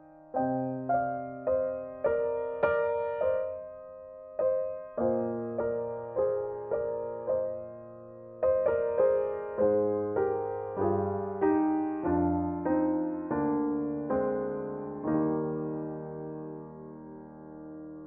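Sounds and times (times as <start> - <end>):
slow gentle piano melody: 0.0 - 18.0.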